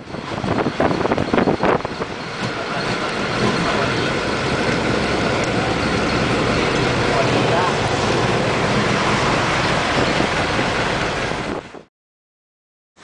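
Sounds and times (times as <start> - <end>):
bus engine and road noise: 0.0 - 11.9.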